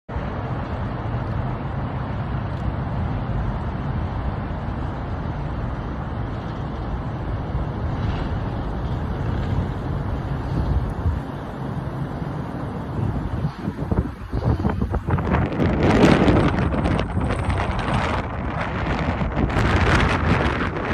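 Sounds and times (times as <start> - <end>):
city traffic rumble: 0.1 - 20.9.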